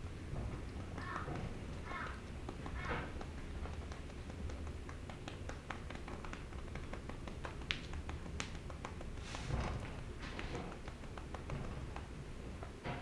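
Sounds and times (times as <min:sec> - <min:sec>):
hand patting a cat: 0:00.4 - 0:13.0.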